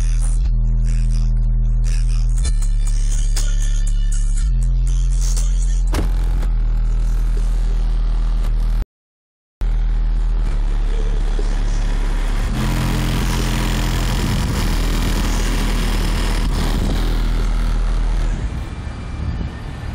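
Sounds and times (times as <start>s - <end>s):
bass-heavy music through car stereo: 0.0s - 8.8s, 9.6s - 19.9s.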